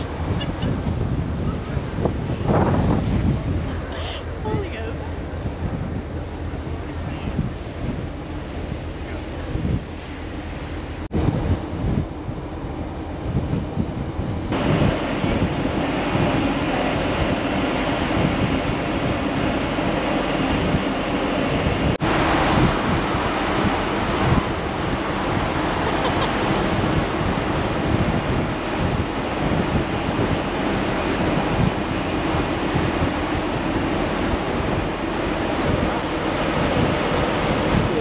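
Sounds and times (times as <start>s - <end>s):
rough sea rushing: 0.0s - 38.0s
wind buffeting the microphone: 0.0s - 38.0s.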